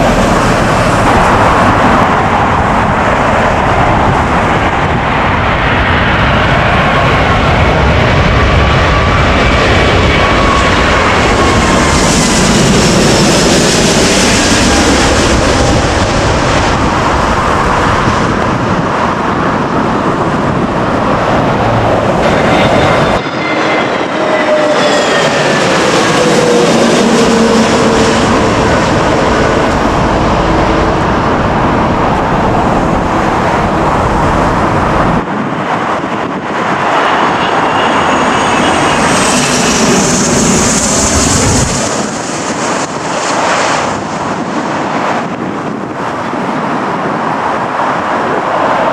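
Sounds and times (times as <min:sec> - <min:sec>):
jet airliners passing overhead: 0:00.0 - 0:48.9.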